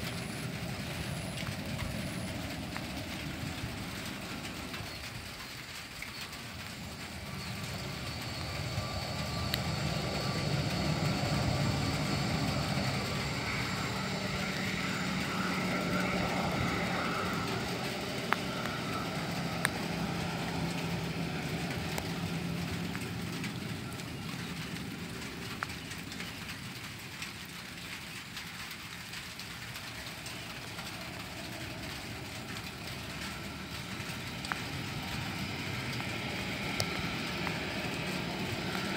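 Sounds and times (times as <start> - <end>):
jet airliner engines idling: 0.0 - 38.9.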